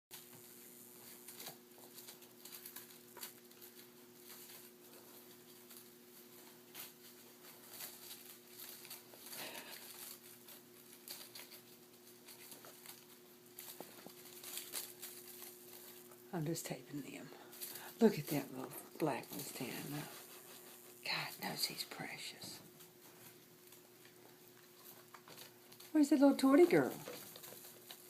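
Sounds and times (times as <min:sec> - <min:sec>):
kittens pattering and rustling: 0:00.2 - 0:28.0
steady low hum: 0:00.2 - 0:28.0.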